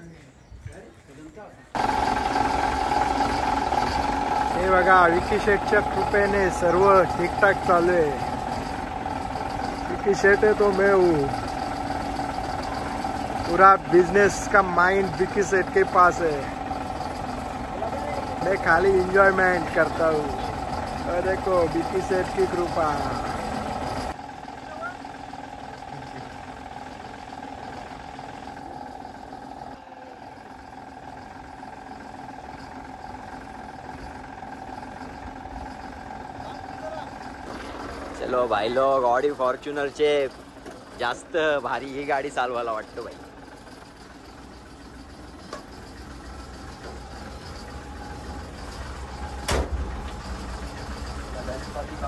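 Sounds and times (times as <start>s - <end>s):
truck diesel engine idling: 1.7s - 52.0s.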